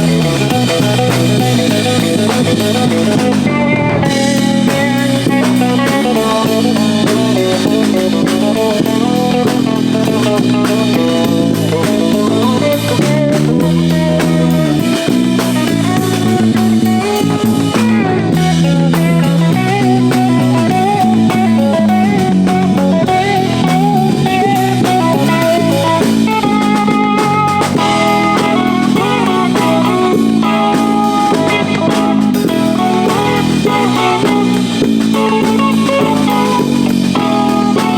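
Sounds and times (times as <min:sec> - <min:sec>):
drum kit: 0:00.0 - 0:37.9
electric guitar: 0:00.0 - 0:37.9.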